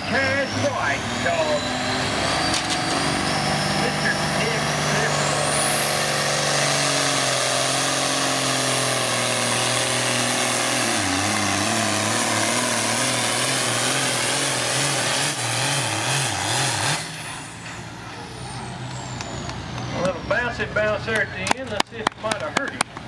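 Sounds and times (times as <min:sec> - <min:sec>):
vehicle engine at full throttle: 0:00.0 - 0:23.0.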